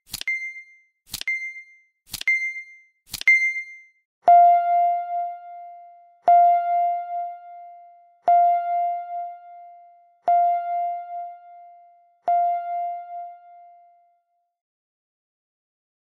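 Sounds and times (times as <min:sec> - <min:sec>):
timer chime beeping: 0:00.2 - 0:14.2.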